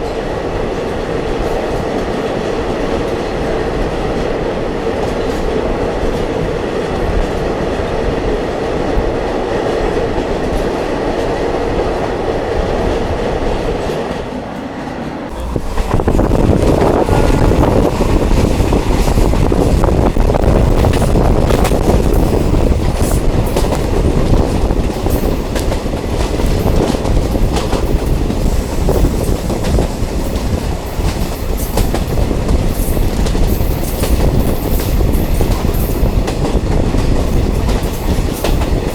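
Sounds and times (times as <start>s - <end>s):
diesel train running: 0.0s - 38.9s
wheels clicking over rail joints: 0.0s - 38.9s.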